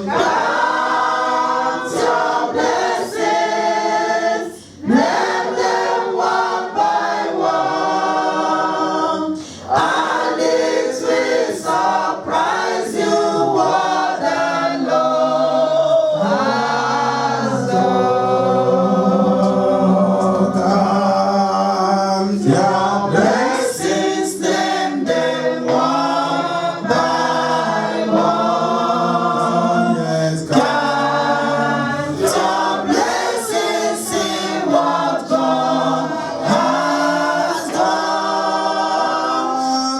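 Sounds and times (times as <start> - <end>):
choir singing worship song: 0.0 - 39.9.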